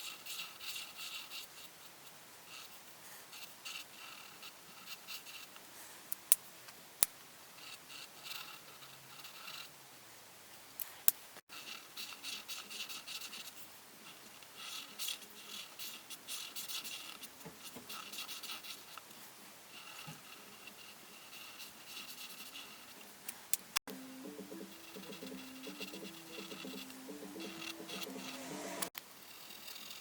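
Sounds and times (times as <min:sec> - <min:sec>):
drawing tool scratching on paper: 0:00.0 - 0:05.6, 0:07.6 - 0:09.7, 0:11.5 - 0:19.1, 0:19.7 - 0:30.0.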